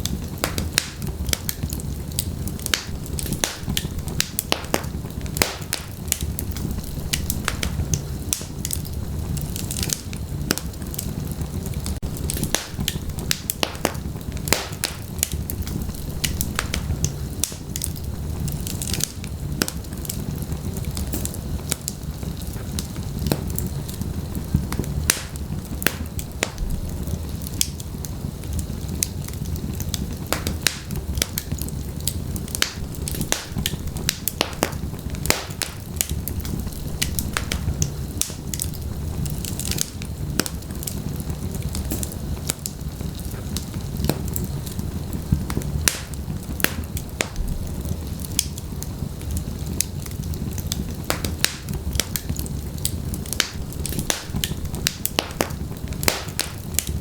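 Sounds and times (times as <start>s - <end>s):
fire crackling and popping: 0.0s - 57.0s
flames rumbling: 0.0s - 57.0s.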